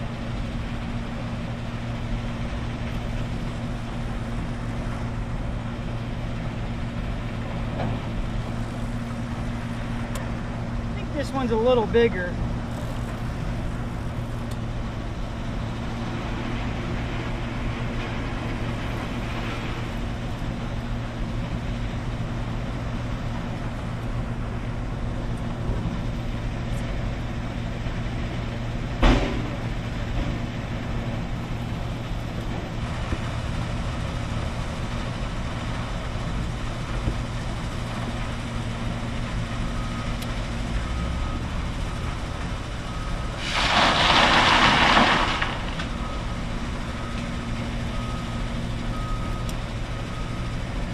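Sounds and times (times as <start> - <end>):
construction machinery droning: 0.0 - 50.9.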